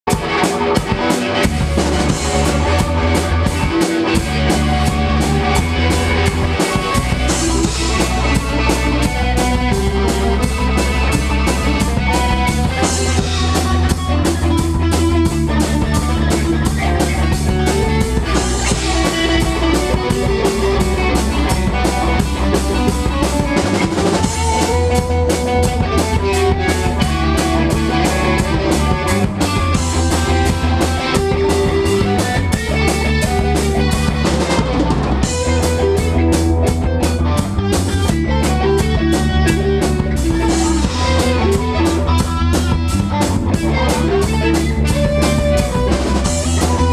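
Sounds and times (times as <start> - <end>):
rock band playing live: 0.0 - 46.9
drum kit beat: 0.1 - 46.9.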